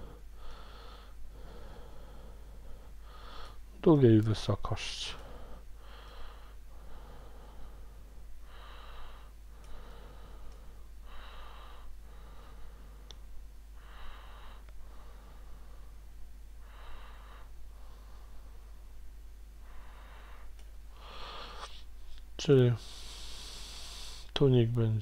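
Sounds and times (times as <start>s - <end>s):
person breathing slowly: 0.0s - 3.7s, 5.1s - 19.0s, 19.6s - 24.4s.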